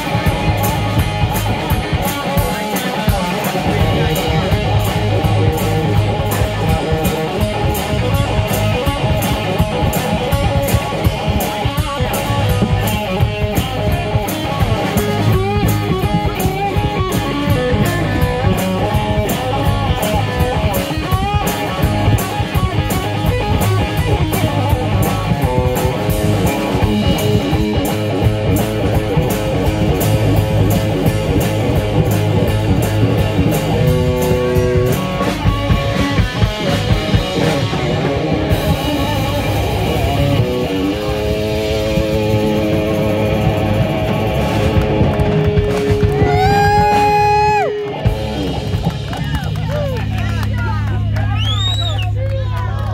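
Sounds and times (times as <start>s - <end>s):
electric bass playing: 0.0s - 52.9s
steady drum beat: 0.0s - 52.9s.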